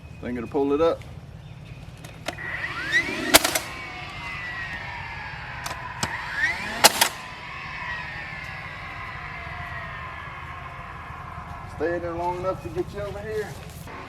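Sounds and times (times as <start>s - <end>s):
low engine drone: 1.9s - 14.0s
brief rising whine: 2.0s - 14.0s.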